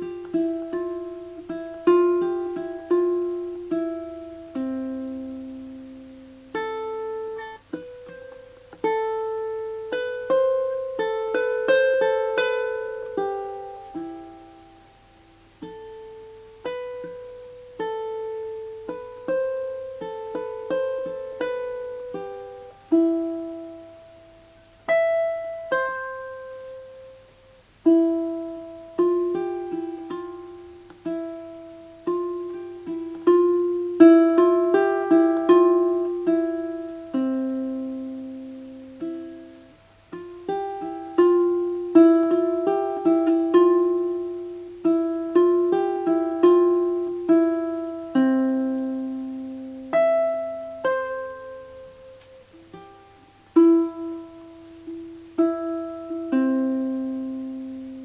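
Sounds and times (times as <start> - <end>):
ukulele plucked melody: 0.0 - 58.0.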